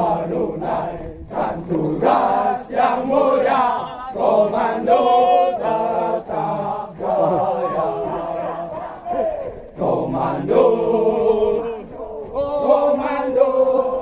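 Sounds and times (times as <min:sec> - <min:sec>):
men singing in unison: 0:00.0 - 0:14.0.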